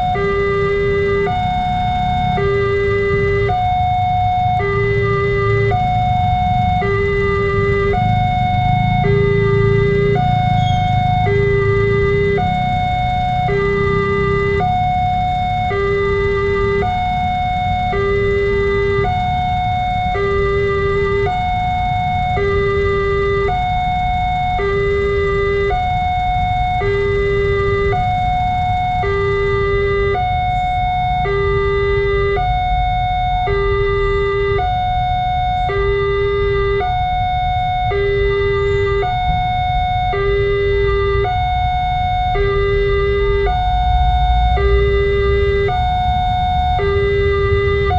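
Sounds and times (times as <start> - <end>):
two-tone warning siren: 0.0 - 47.9.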